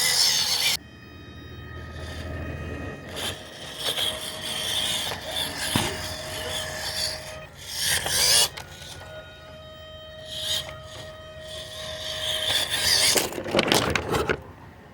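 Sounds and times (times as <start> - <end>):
rubbing and scraping strokes: 0.0 - 0.8, 3.0 - 14.3
faint steady whine: 0.0 - 14.9.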